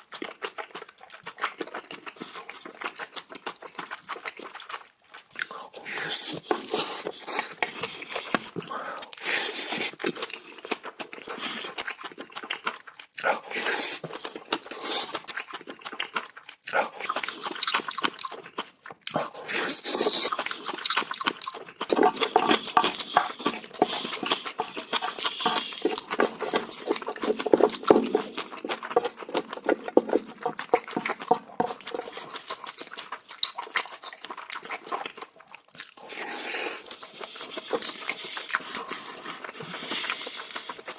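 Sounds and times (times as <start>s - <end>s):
wet chewing and lip smacking: 0.0s - 40.9s.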